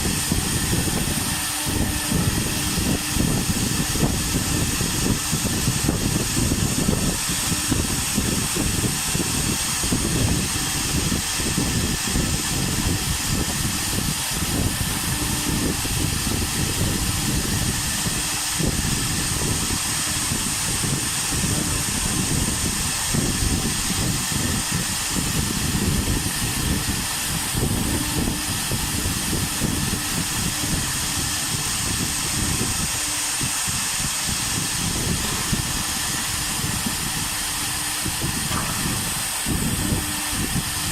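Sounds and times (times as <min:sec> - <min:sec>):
cnc router carving wood: 0:00.0 - 0:40.9.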